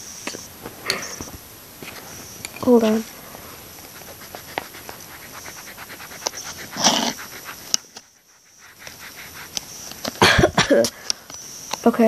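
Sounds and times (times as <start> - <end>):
eraser scrubbing on paper: 1.9 - 12.0.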